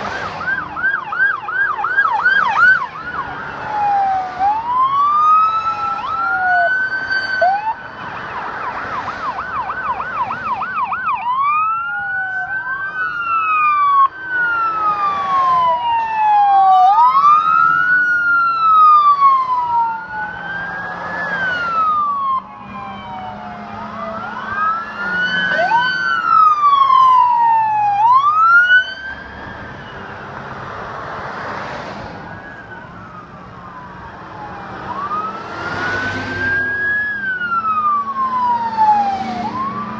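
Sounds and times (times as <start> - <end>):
police sirens wailing: 0.0 - 39.9
siren fast yelp: 0.3 - 30.2, 32.3 - 39.9.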